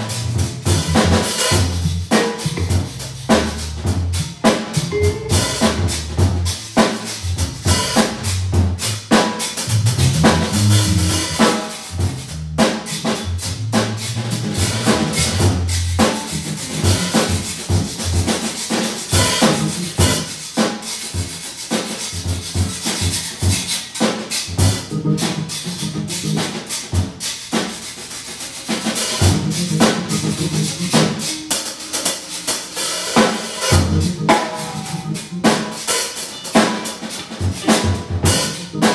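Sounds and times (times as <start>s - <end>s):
organ bass line: 0.0s - 20.4s, 24.5s - 27.2s, 28.8s - 38.9s
drum kit beat: 0.0s - 38.9s.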